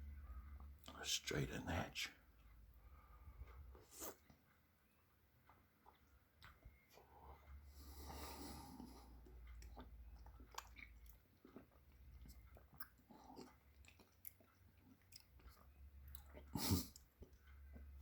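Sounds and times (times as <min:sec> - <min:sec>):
wet chewing mouth sounds: 0:02.4 - 0:04.6, 0:05.4 - 0:18.0.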